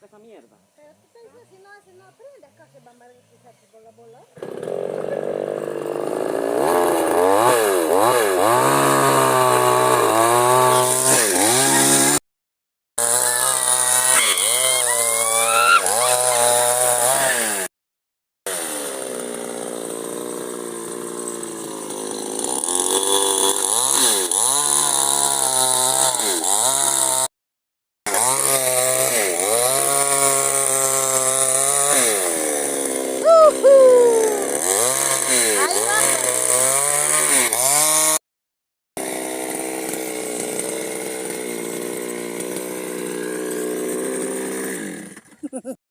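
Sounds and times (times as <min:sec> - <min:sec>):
chainsaw cutting wood: 0:04.4 - 0:12.2, 0:13.0 - 0:17.7, 0:18.5 - 0:27.3, 0:28.1 - 0:38.2, 0:39.0 - 0:45.8.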